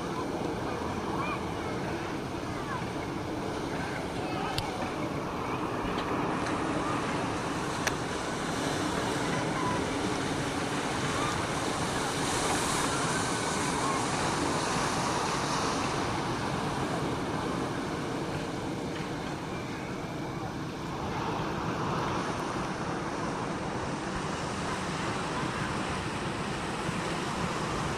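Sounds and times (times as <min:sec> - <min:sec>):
ocean surf breaking on beach: 0:00.0 - 0:27.9.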